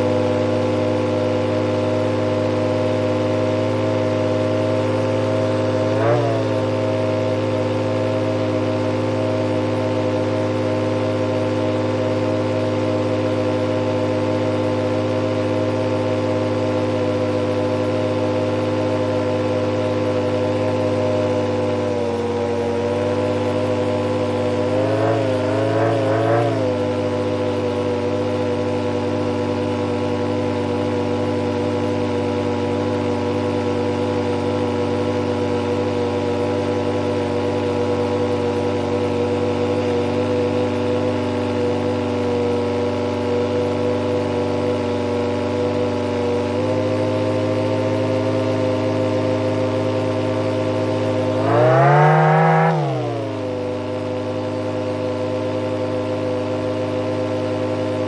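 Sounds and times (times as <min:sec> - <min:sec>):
turbine idling whine: 0:00.0 - 0:58.0.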